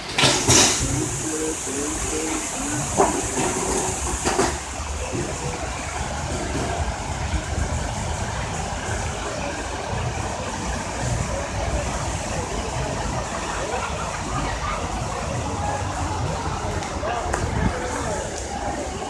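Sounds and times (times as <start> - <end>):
constant hiss: 0.0 - 19.0
low uneven rumble: 0.0 - 19.0.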